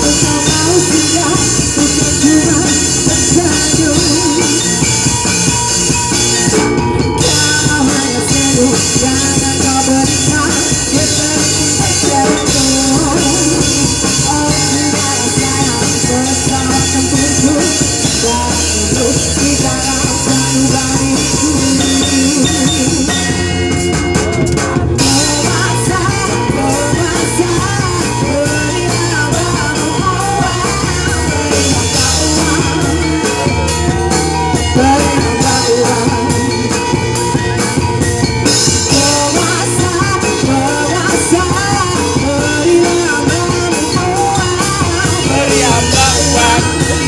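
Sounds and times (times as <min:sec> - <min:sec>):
drum kit: 0:00.0 - 0:47.0
live rock band playing: 0:00.0 - 0:47.0
pitch-bending melody line: 0:00.0 - 0:47.0.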